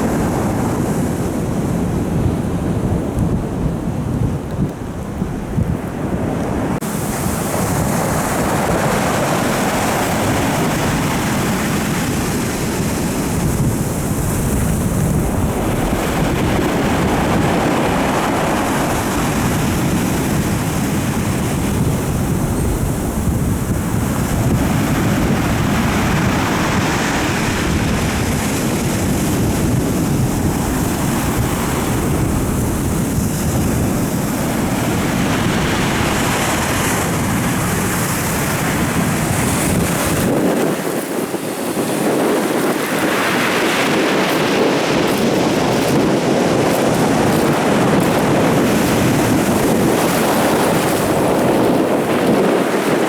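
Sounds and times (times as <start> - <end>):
stormy sea surf breaking: 0.0 - 53.0
wind blowing across microphone: 0.0 - 53.0.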